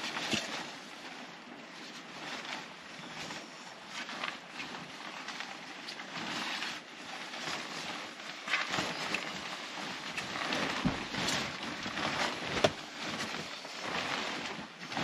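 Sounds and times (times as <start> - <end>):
comforter rustling and swishing: 0.0 - 15.0.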